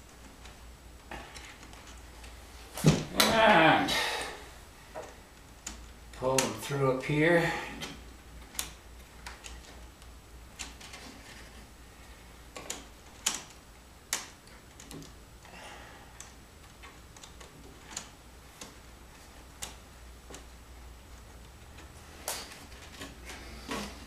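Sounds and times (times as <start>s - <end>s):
wires and pliers tapping wood: 0.0s - 3.6s, 4.9s - 6.7s, 7.8s - 11.6s, 12.5s - 24.0s
low steady hum: 0.0s - 24.0s.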